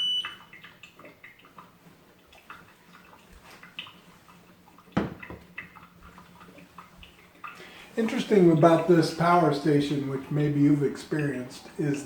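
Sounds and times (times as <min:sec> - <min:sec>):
coffee maker gurgling: 0:00.0 - 0:12.0
dripping ticks: 0:00.0 - 0:12.0
low steady hum: 0:00.0 - 0:12.0.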